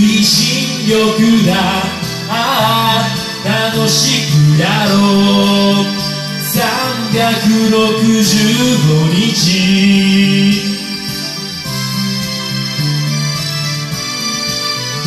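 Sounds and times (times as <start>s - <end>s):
karaoke backing track: 0.0s - 15.0s
person singing a slow pop ballad: 0.0s - 15.0s.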